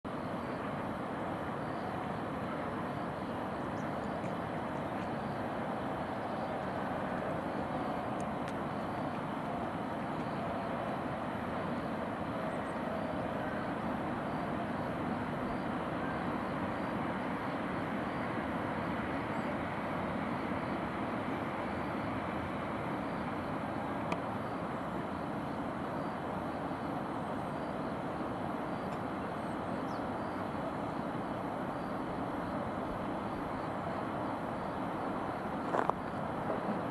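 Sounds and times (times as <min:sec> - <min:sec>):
distant traffic rush: 0:00.5 - 0:36.9.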